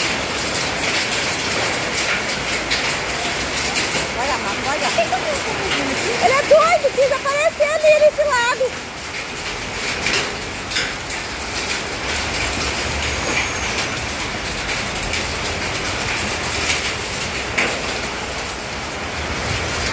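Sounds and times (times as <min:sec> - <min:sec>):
heavy rain and floodwater rushing: 0:00.0 - 0:19.9
raindrops ticking: 0:00.0 - 0:19.9.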